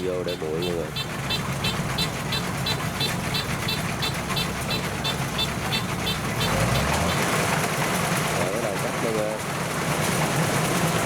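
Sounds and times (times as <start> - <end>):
combine harvester diesel hum: 0.0 - 11.0.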